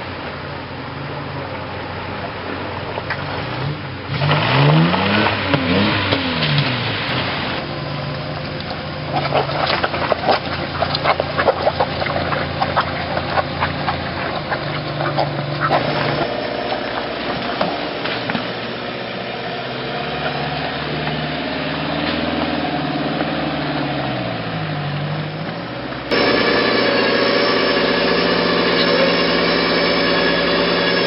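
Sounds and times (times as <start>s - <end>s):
engine revving in mud: 0.0s - 31.0s
off-road engine: 0.0s - 31.0s.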